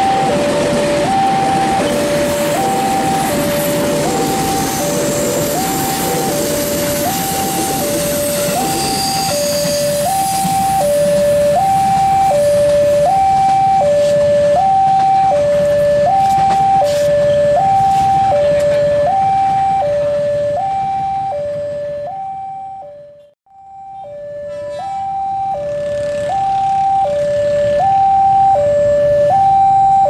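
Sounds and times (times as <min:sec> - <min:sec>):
two-tone crossing alarm: 0:00.0 - 0:30.0.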